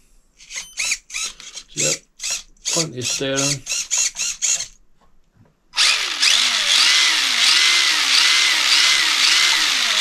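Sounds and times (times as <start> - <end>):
rc car motor whining: 0.4 - 4.7, 5.8 - 10.0.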